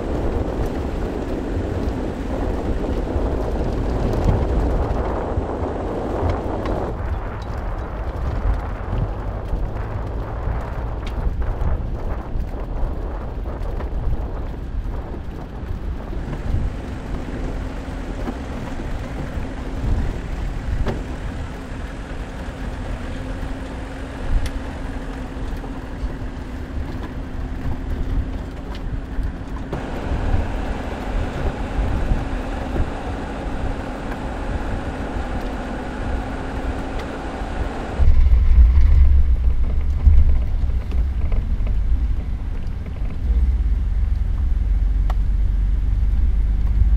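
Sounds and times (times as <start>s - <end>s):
car engine drone: 0.0s - 46.9s
tyres rumbling on gravel: 0.0s - 46.9s.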